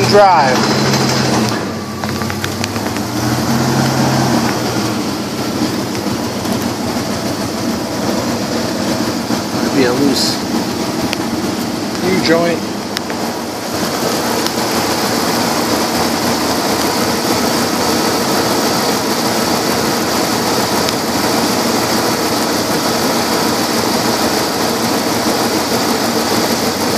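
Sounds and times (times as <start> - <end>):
truck engine idling: 0.0 - 26.9.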